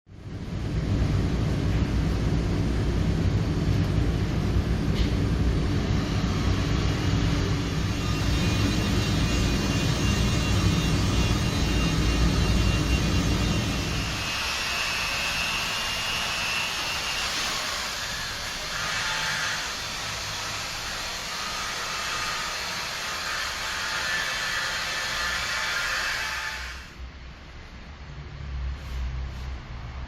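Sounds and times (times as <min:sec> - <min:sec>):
steady mechanical drone: 0:00.1 - 0:29.0.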